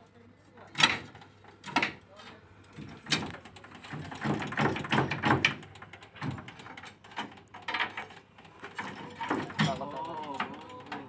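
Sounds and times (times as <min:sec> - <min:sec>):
knocks and scraping on metal: 0:00.7 - 0:11.0.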